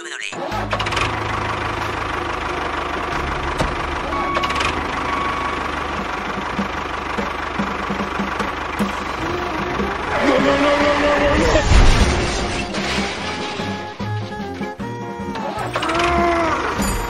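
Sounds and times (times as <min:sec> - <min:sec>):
diesel engine idling: 0:00.4 - 0:17.0.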